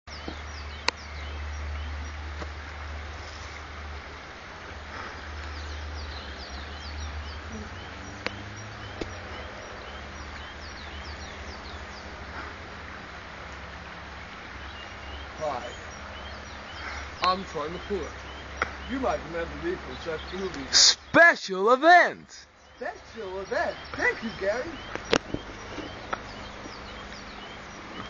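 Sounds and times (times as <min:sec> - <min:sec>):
small birds chirping: 0:00.1 - 0:28.0.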